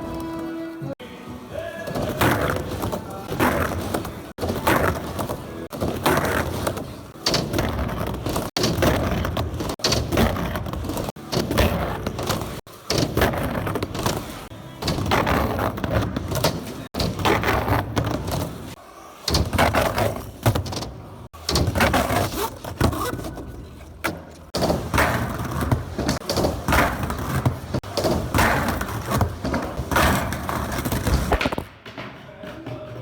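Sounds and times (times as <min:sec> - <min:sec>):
skateboard wheels rolling on concrete: 0:00.0 - 0:33.0.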